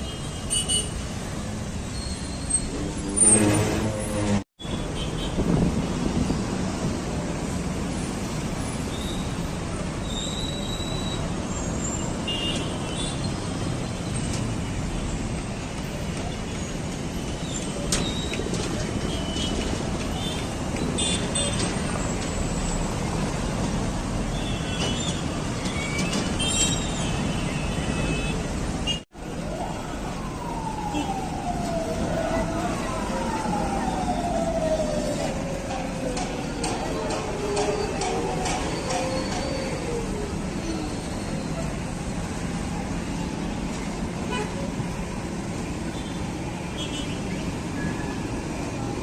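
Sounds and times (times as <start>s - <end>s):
rumble of passing vehicles: 0.0s - 49.0s.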